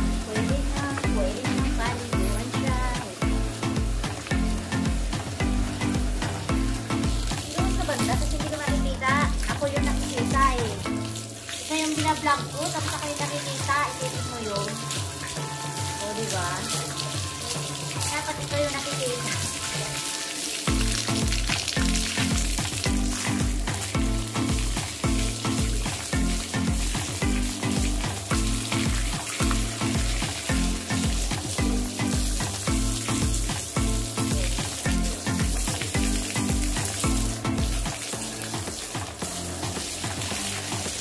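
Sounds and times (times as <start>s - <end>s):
background music with beat: 0.0s - 41.0s
water splashing on concrete: 0.0s - 41.0s
water spraying from hose: 0.0s - 41.0s.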